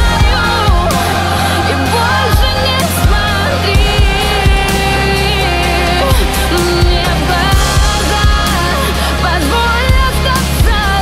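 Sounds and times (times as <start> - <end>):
kick drum beats: 0.0 - 9.0
instrumental music: 0.0 - 11.0.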